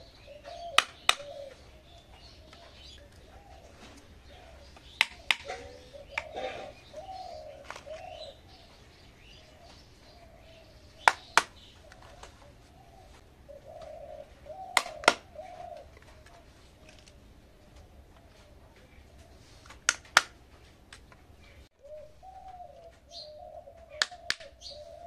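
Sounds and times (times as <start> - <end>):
bird cooing: 0.0 - 19.8, 21.4 - 25.0.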